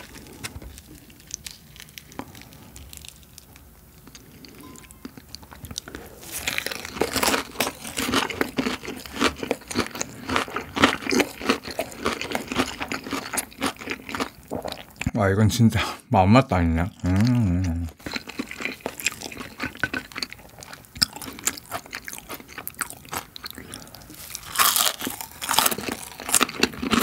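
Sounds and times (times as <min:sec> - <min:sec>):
crunching fried chicken: 0:00.0 - 0:15.2, 0:16.8 - 0:27.0.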